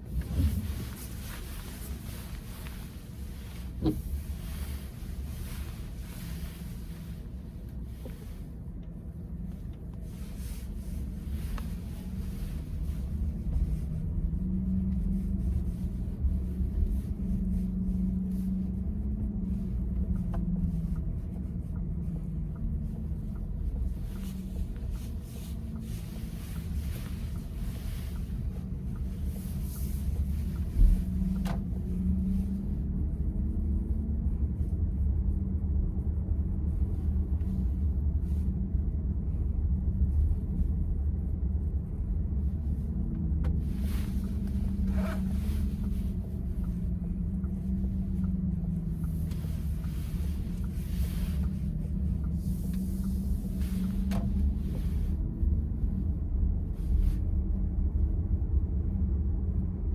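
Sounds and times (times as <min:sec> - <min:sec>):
road and tyre rumble in car: 0:00.0 - 0:59.9.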